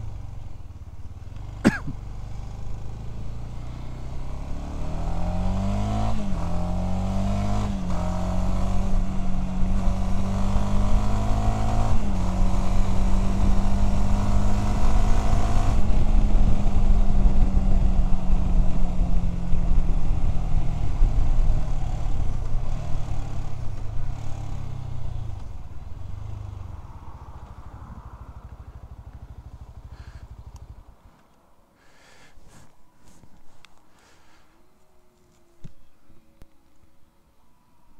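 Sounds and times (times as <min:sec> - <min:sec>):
motorcycle engine revving: 0:00.0 - 0:31.1.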